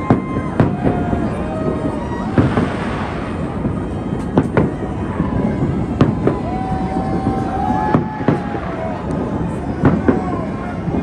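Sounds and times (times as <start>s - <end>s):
fireworks bangs: 0.0s - 11.0s
street noise: 0.0s - 11.0s.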